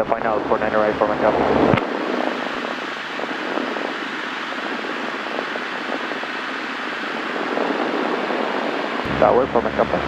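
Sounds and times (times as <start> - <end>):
aircraft engine and propeller hiss: 0.1 - 10.0.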